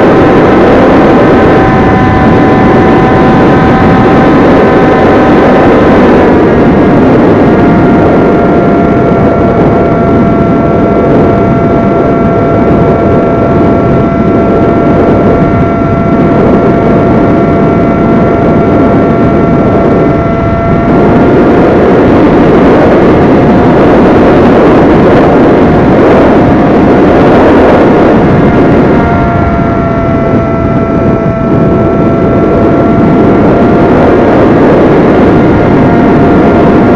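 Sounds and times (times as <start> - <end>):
electric motor and propeller whine: 0.0 - 36.9
wind rush: 0.0 - 36.9.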